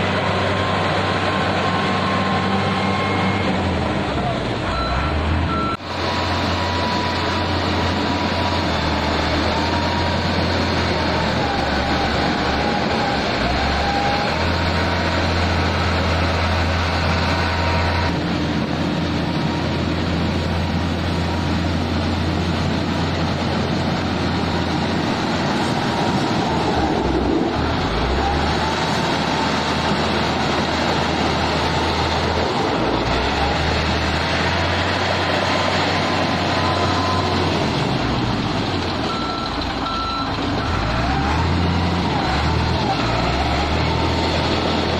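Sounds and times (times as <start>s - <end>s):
heavy machinery engine drone: 0.0s - 44.9s.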